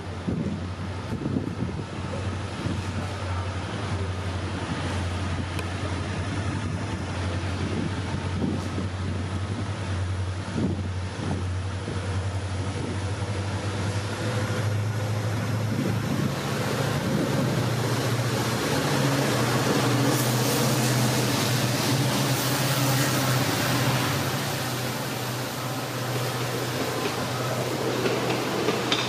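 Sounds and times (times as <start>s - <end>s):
diesel locomotive engine drone: 0.0s - 29.0s
wheel and rail noise: 0.0s - 29.0s.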